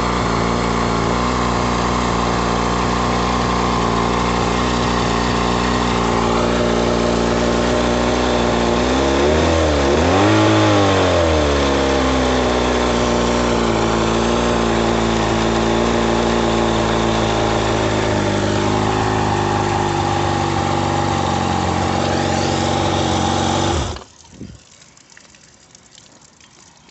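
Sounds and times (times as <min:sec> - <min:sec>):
outboard motor running: 0:00.0 - 0:24.1.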